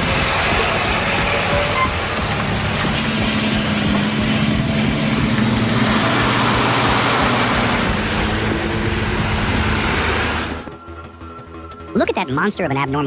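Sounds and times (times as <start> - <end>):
heavy truck engine running: 0.0 - 10.8
loud rushing noise: 0.0 - 10.8.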